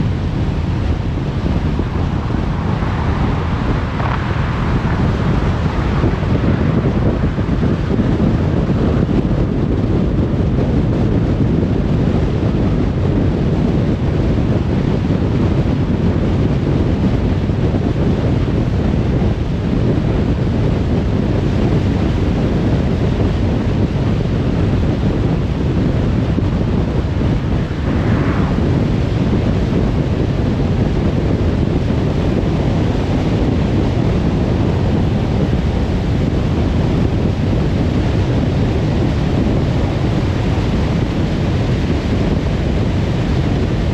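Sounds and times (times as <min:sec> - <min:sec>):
tyre and wind noise rumble: 0:00.0 - 0:43.9.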